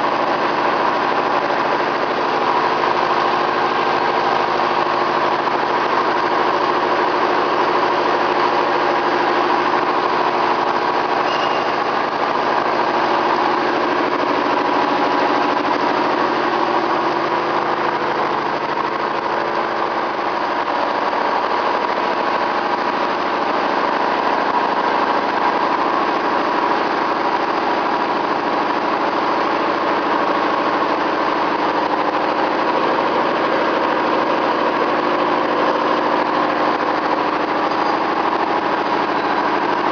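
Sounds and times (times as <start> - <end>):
milling machine whining: 0.0 - 39.9.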